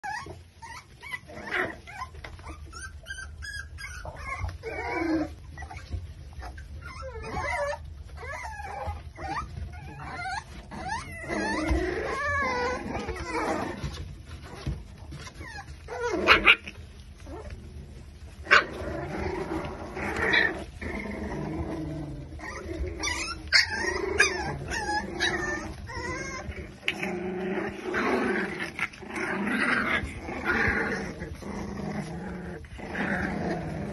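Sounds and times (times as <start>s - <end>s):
puppies yipping and whimpering: 0.0s - 33.9s.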